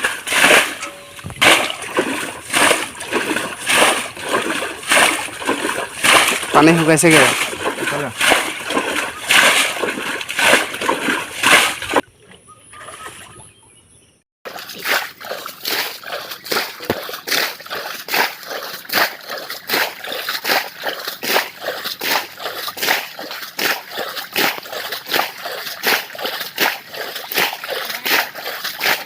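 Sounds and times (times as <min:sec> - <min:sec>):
water splashing from bailing: 0:00.0 - 0:12.0, 0:14.5 - 0:29.0.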